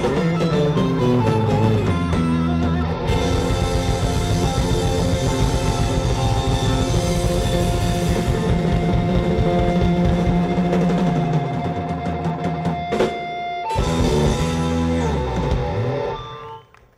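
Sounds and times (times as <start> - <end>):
live rock band playing: 0.0 - 16.7.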